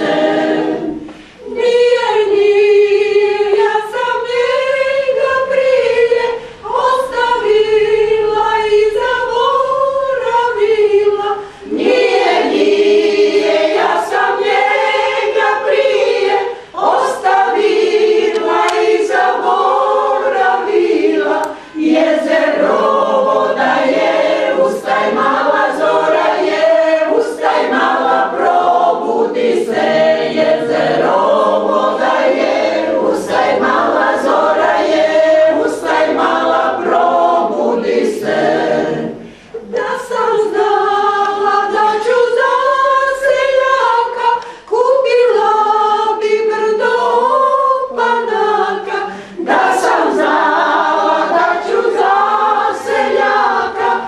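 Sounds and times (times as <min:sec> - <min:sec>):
women's choir singing: 0:00.0 - 0:54.0.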